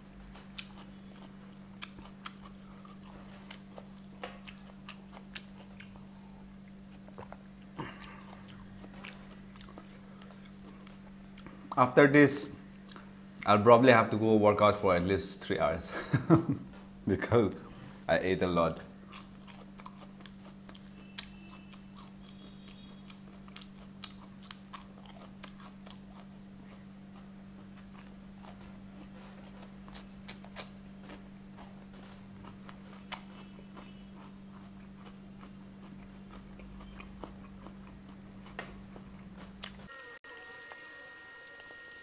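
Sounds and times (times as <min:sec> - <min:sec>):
person chewing crispy food: 0:00.0 - 0:11.8, 0:12.8 - 0:13.5, 0:18.9 - 0:42.0
steady low hum: 0:00.0 - 0:42.0.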